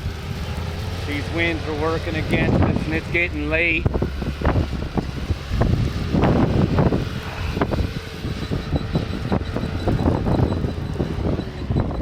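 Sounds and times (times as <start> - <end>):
loader engine humming: 0.0 - 12.0
wind buffeting microphone: 0.0 - 12.0.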